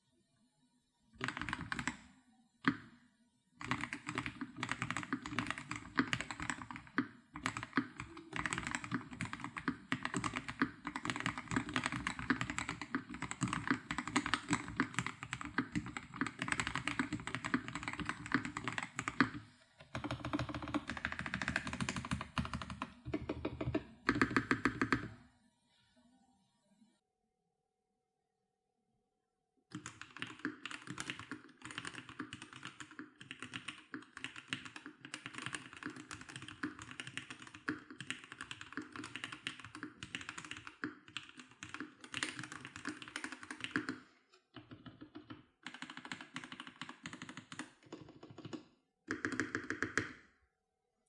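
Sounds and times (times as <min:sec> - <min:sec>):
fast typing on mechanical keyboard: 0:01.2 - 0:02.0, 0:03.6 - 0:25.2, 0:29.7 - 0:44.0, 0:44.6 - 0:50.2.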